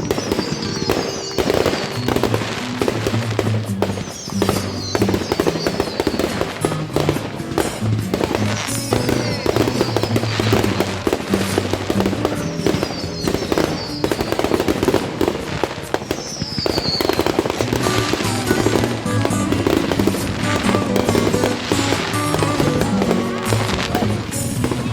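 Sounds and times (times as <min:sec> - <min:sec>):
background music: 0:00.0 - 0:24.9
firework whistles falling in pitch: 0:00.0 - 0:24.9
fireworks crackling and popping: 0:00.0 - 0:24.9.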